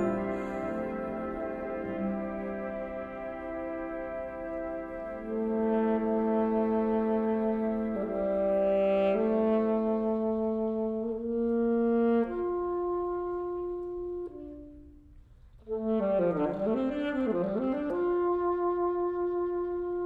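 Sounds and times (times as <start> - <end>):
alto saxophone playing: 0.0 - 20.0.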